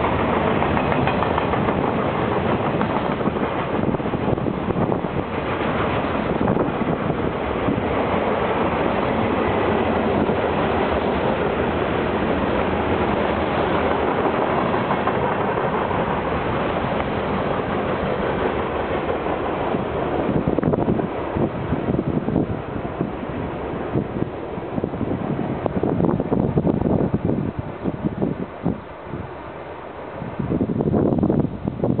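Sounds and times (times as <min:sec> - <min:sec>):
train wheels on rail: 0:00.0 - 0:32.0
wind buffeting microphone: 0:00.0 - 0:32.0.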